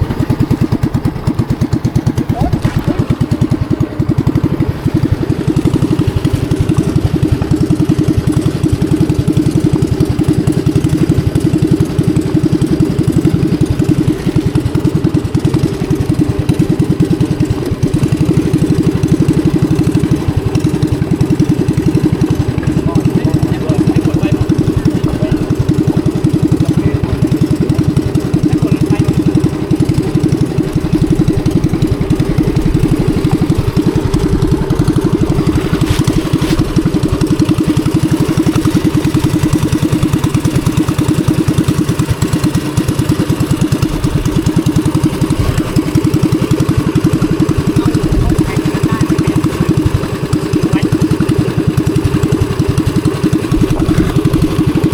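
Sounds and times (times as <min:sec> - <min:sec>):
boat engine chugging: 0:00.0 - 0:54.9.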